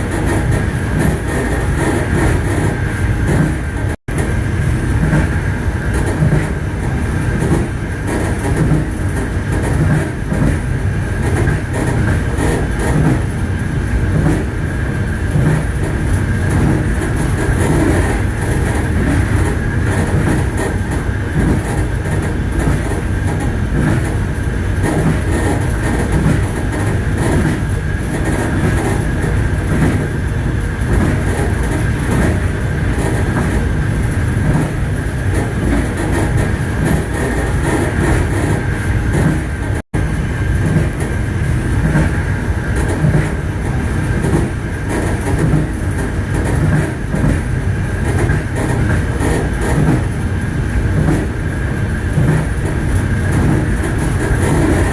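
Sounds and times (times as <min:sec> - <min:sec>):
train rumbling on rails: 0:00.0 - 0:54.9
wheels clacking over rail joints: 0:00.0 - 0:54.9.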